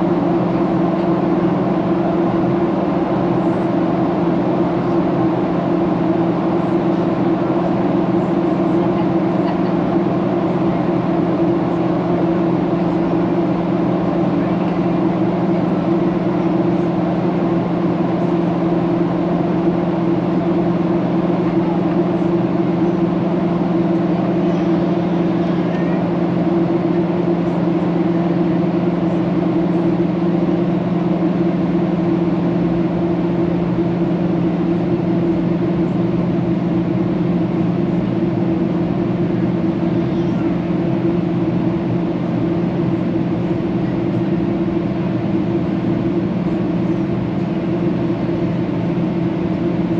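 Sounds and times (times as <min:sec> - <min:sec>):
aircraft engine drone: 0:00.0 - 0:49.9.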